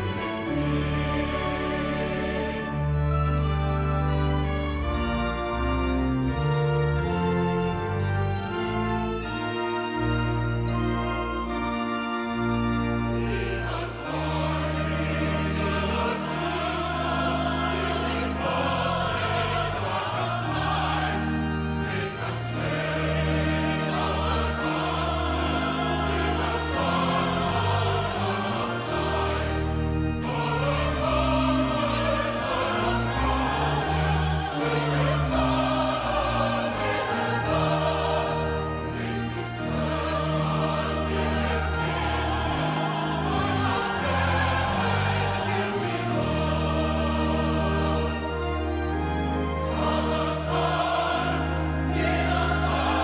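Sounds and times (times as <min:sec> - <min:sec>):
choir singing with orchestra: 0:00.0 - 0:53.0.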